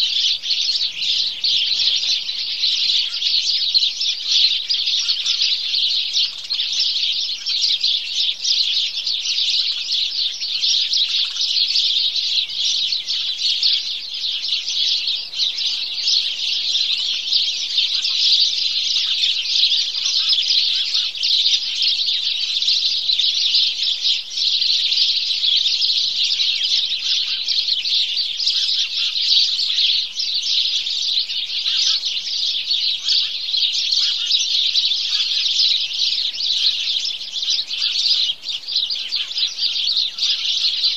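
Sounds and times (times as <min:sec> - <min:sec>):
flock of sparrows chirping: 0:00.0 - 0:40.9.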